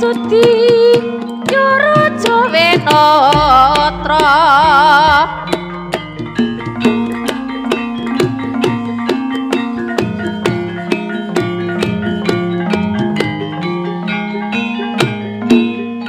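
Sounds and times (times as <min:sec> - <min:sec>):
struck metallophone notes: 0:00.0 - 0:16.0
drum strokes: 0:00.6 - 0:14.0.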